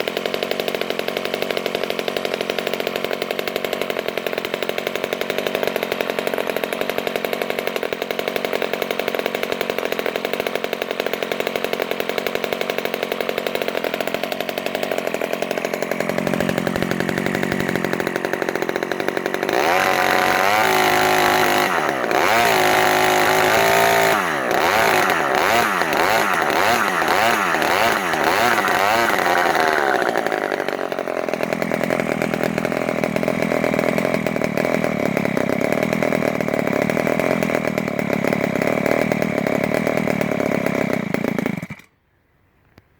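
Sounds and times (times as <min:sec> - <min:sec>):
model aircraft engine revving: 0:00.0 - 0:41.9.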